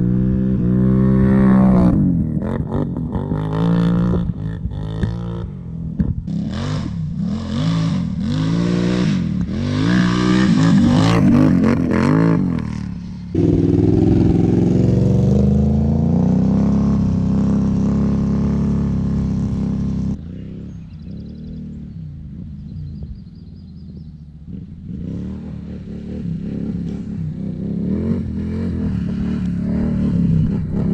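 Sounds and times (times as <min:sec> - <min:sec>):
atv engine revving: 0:00.0 - 0:30.9.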